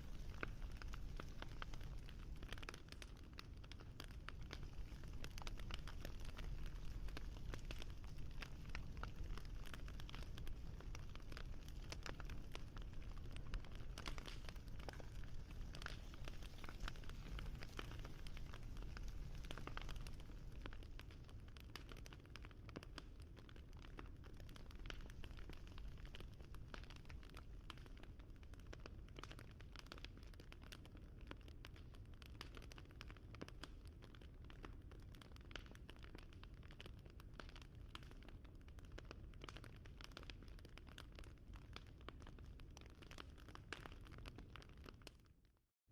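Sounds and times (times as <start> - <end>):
wood fire crackling: 0.0 - 45.2.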